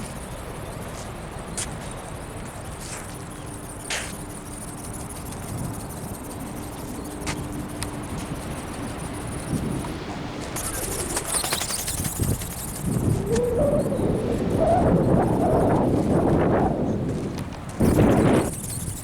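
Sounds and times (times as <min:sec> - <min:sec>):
sharp clicks: 0:00.0 - 0:15.9
faint steady hum: 0:00.0 - 0:19.0
wind buffeting microphone: 0:00.0 - 0:19.0.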